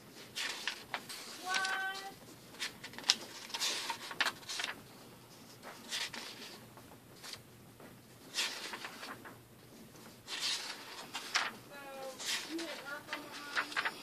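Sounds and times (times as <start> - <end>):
paper pages turning: 0.1 - 7.4, 8.1 - 14.0.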